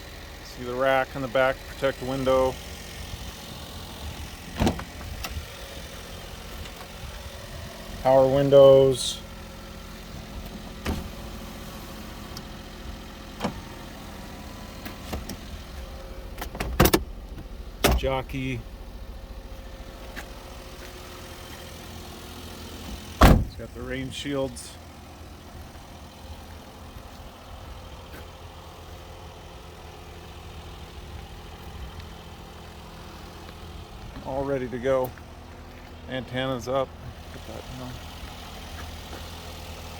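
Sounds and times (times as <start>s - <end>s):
small truck engine idling: 0.0s - 39.9s.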